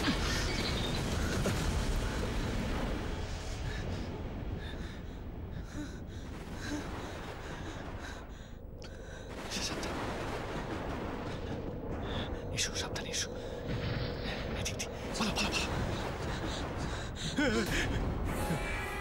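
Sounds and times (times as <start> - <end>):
low rumble like rushing wind: 0.0 - 18.4.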